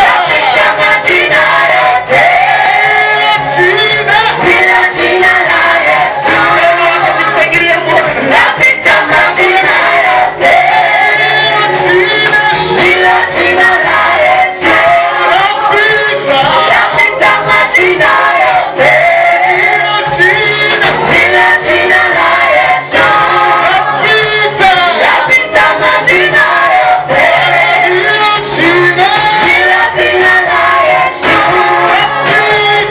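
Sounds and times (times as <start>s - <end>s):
group singing gospel: 0.0s - 32.9s
instrumental accompaniment: 0.0s - 32.9s.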